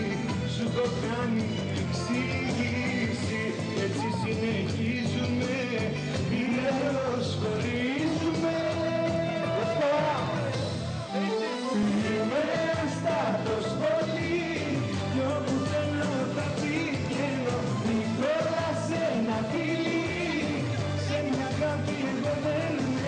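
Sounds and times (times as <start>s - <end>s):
pop song with singing: 0.0s - 23.0s.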